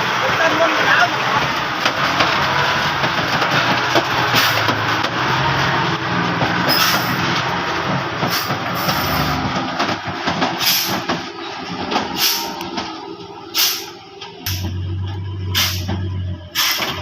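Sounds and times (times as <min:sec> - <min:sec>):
heavy truck engine under load: 0:00.0 - 0:17.0.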